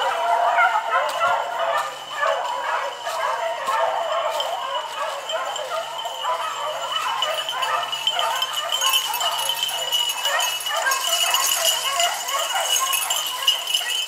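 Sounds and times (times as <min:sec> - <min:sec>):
beagles baying and yelping: 0:00.0 - 0:14.0.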